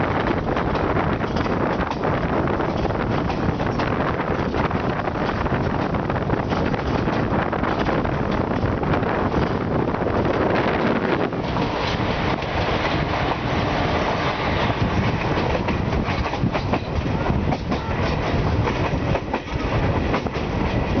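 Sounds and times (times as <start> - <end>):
clickety-clack of wheels: 0.0 - 13.4, 14.1 - 21.0
train rumble: 0.0 - 21.0.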